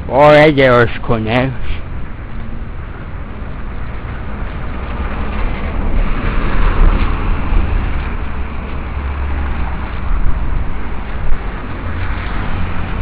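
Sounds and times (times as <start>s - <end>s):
road noise rushing: 0.0s - 13.0s
vehicle engine low rumble: 0.0s - 13.0s.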